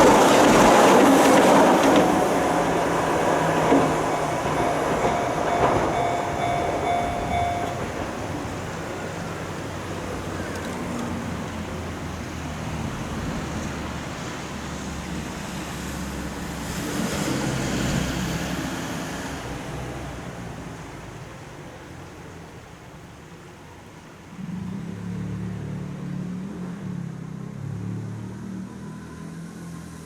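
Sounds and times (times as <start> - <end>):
electric train passing: 0.0 - 25.5.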